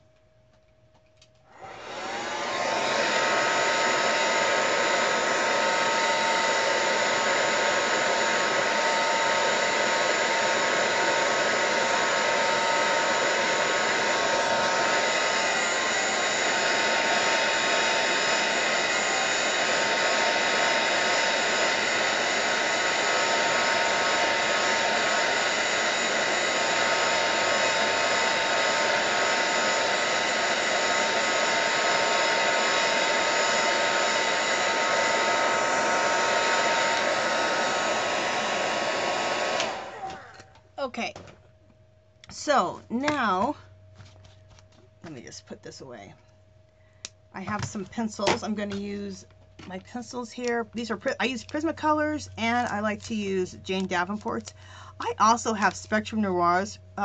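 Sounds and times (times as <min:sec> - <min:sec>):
electric dryer blowing with whine: 0:00.0 - 0:45.9, 0:47.0 - 0:57.0.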